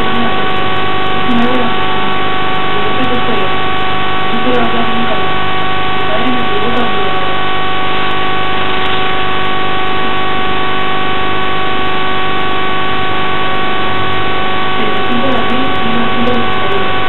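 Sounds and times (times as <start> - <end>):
steady hiss and hum: 0.0 - 17.0
whining tones: 0.0 - 17.0.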